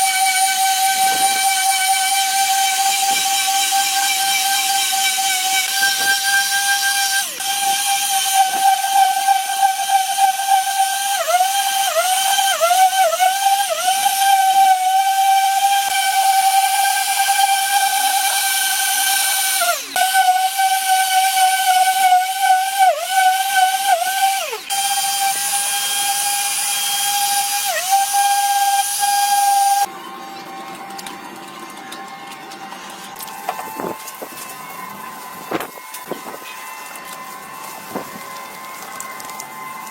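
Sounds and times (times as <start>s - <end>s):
power tool high-pitched whine: 0.0s - 39.9s.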